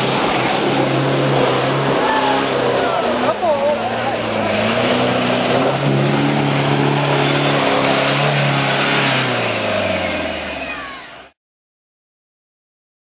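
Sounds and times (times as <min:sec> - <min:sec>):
diesel engine revving under load: 0:00.0 - 0:11.4.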